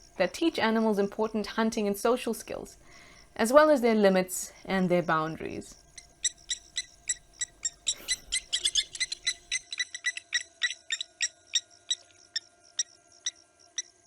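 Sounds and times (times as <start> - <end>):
birds giving metallic alarm calls: 0.0 - 12.0.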